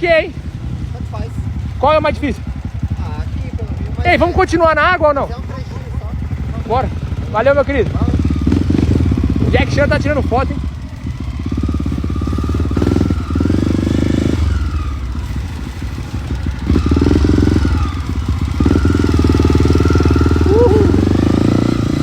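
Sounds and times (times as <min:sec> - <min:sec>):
off-road motorcycle engine revving: 0:00.0 - 0:22.0.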